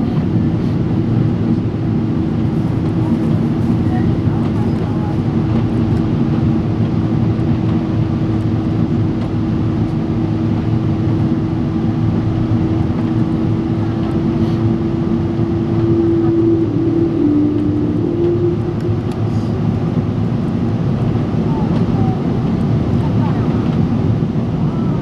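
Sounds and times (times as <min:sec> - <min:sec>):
airliner cabin engine roar: 0:00.0 - 0:25.0.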